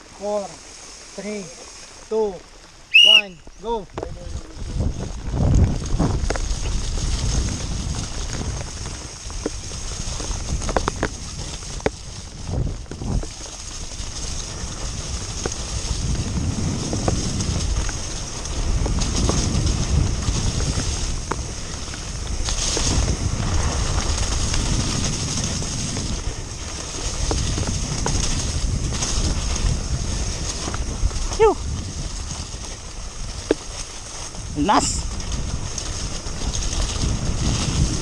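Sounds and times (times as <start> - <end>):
bike tyre and drivetrain noise: 0.0 - 38.0
wind rumble on microphone: 0.0 - 38.0.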